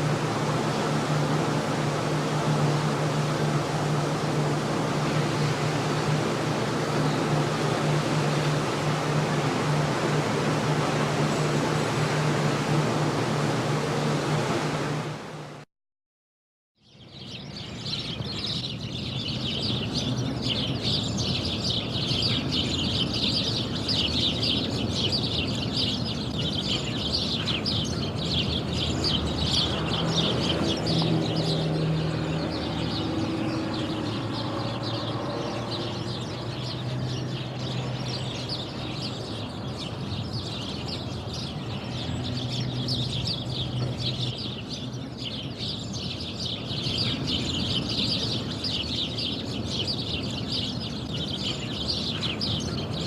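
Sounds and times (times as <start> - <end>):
small birds chirping: 0.0 - 14.6, 16.8 - 53.0.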